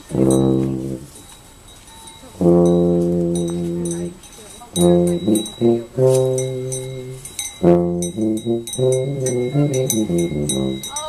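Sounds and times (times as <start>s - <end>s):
brass instrument playing a tune: 0.0s - 11.0s.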